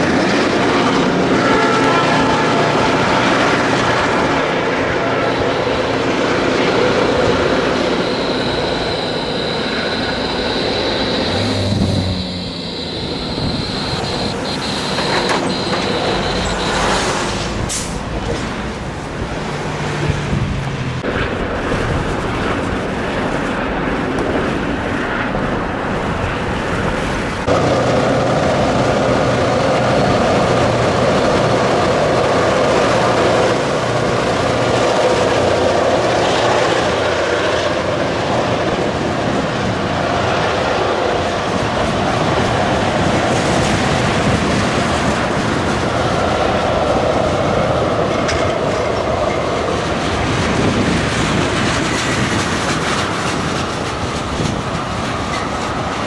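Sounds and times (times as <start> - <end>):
car road and engine noise: 0.0 - 56.0
diesel locomotive engine: 0.0 - 56.0
train wheels rolling on rails: 0.0 - 56.0.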